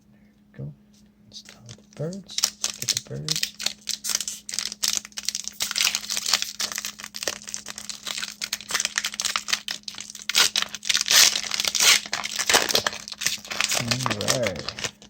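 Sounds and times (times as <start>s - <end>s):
foil wrapper crinkling: 1.4s - 15.0s.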